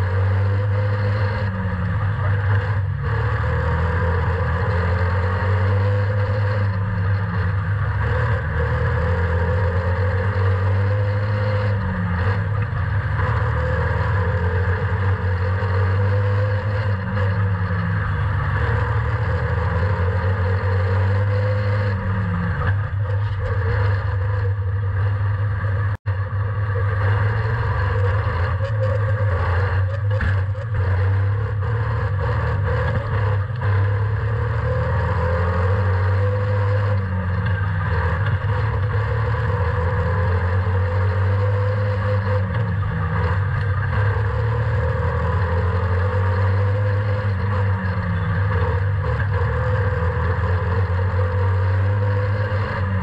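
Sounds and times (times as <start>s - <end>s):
race car engine: 0.0s - 53.0s.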